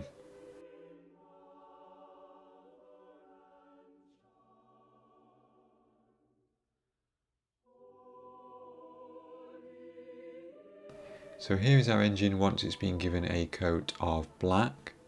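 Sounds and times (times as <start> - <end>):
choral chords: 0.0 - 6.4, 7.7 - 15.0.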